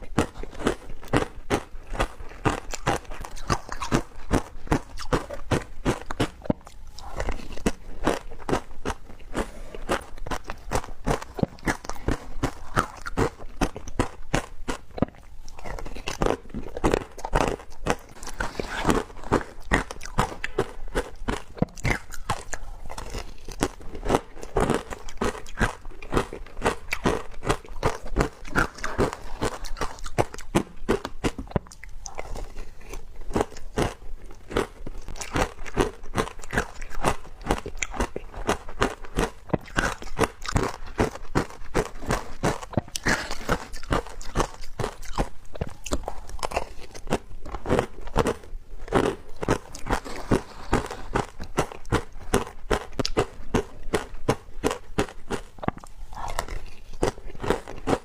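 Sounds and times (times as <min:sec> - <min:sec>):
teeth crunching frozen ice: 0:00.0 - 0:58.0.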